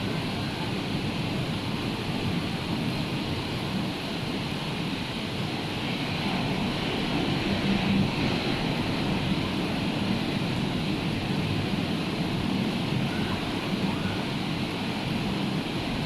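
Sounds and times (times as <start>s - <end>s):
rough sea surf: 0.0s - 16.0s
wind: 0.0s - 16.0s.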